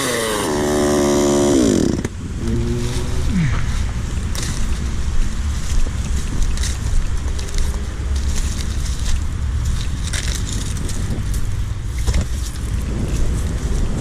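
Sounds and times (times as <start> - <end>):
brush and wood crunching: 0.0 - 14.0
low rumble: 1.4 - 14.0.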